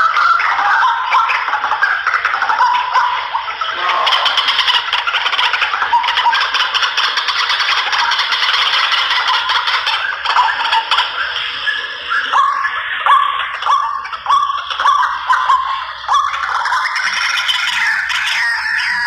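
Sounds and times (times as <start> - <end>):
waterbird chattering croak: 0.0 - 19.0.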